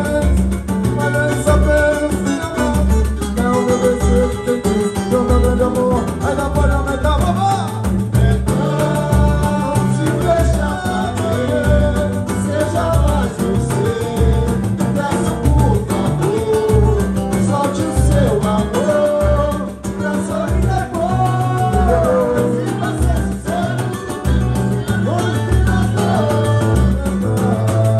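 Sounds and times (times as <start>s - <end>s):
low hand drum beat: 0.0s - 27.9s
men singing: 0.0s - 27.9s
samba band playing: 0.0s - 27.9s.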